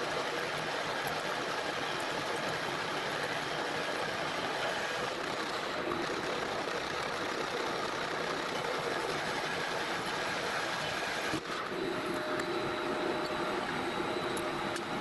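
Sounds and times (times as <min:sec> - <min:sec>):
metal lathe cutting steel: 0:00.0 - 0:15.0
steady hum: 0:00.0 - 0:15.0.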